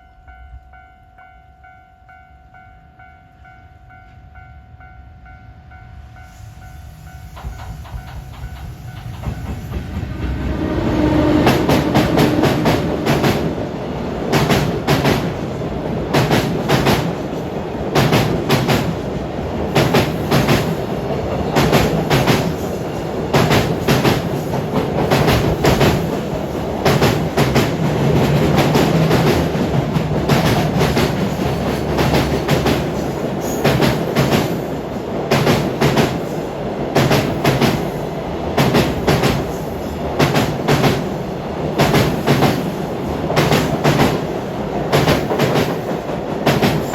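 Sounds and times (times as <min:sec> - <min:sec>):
train wheels clacking over rails: 0:07.3 - 0:46.9.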